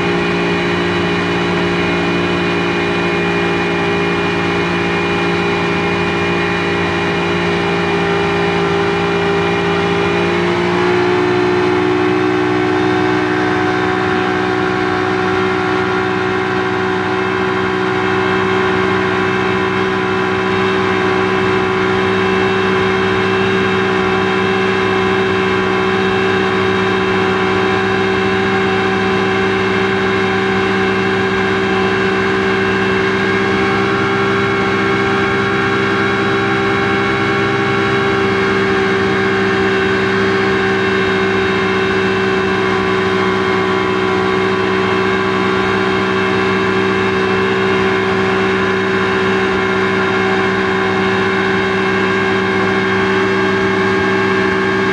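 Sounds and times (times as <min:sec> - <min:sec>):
speedboat engine running: 0:00.0 - 0:54.9.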